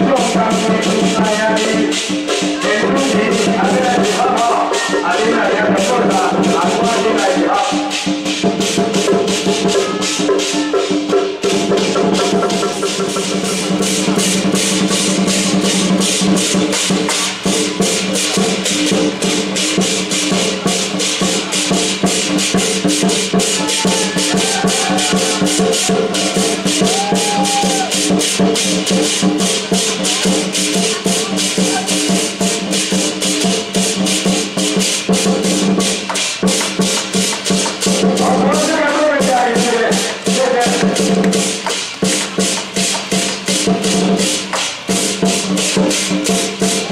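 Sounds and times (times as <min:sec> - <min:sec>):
cymbal beats: 0:00.0 - 0:46.9
rapid drum beats: 0:00.0 - 0:46.9.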